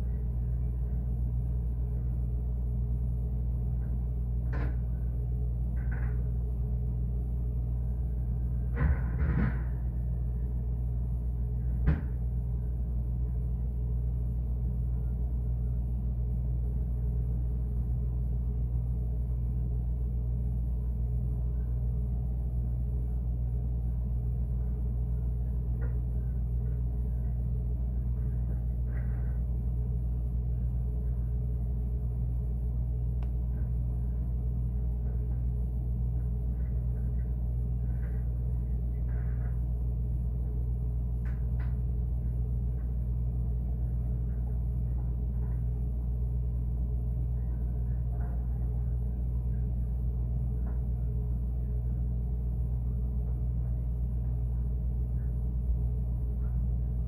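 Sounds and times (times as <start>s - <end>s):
refrigerator humming: 0.0s - 57.0s.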